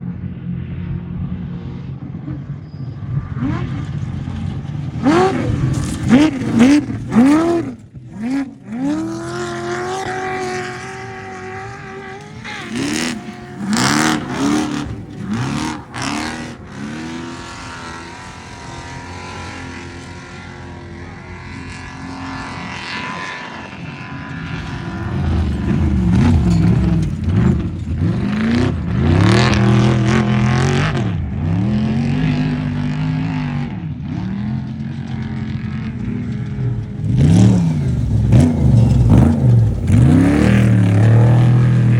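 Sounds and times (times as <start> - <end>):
truck engines revving hard: 1.5 - 41.9.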